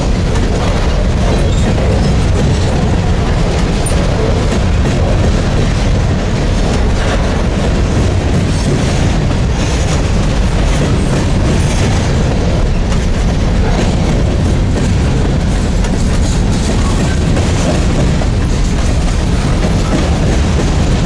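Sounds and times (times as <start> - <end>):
freight train wheels rumbling: 0.0 - 21.0
wheels clicking over track: 0.0 - 21.0.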